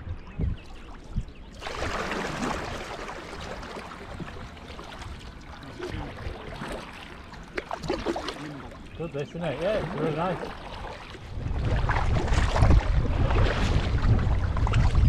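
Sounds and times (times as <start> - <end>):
water rushing along hull: 0.0 - 15.0
kayak paddle splashing: 0.8 - 15.0.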